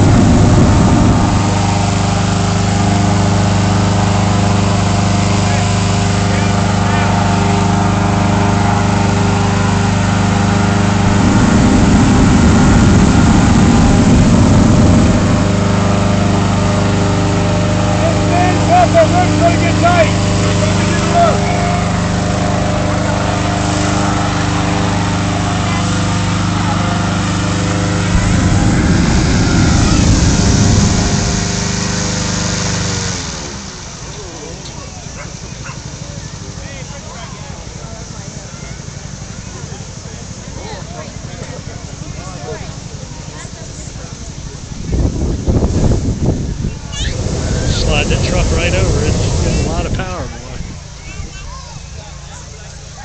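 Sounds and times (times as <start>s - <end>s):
louder rough engine sound: 0.0s - 53.0s
rush of fan air: 0.0s - 53.0s
small engine running: 0.0s - 53.0s.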